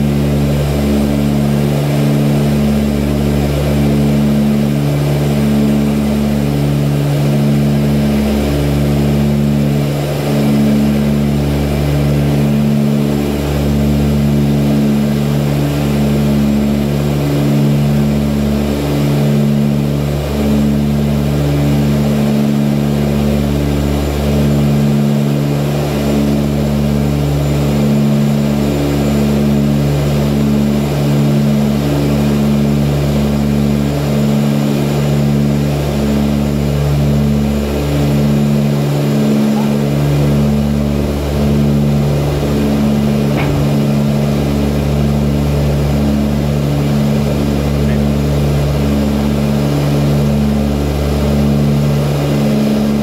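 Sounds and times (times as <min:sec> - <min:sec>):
turboprop engines droning in cabin: 0:00.0 - 0:53.0.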